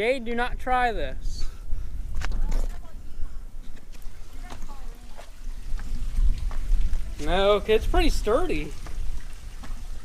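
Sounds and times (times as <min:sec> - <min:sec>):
wind buffeting microphone: 0:00.5 - 0:10.0.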